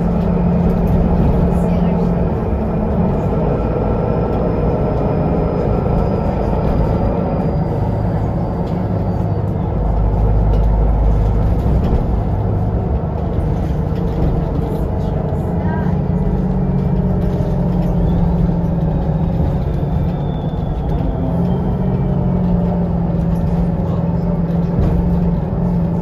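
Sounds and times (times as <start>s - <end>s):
bus engine rumble: 0.0s - 26.0s.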